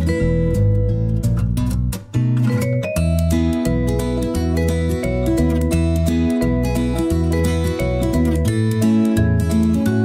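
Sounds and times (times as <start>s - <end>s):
acoustic guitar background music: 0.0s - 10.0s.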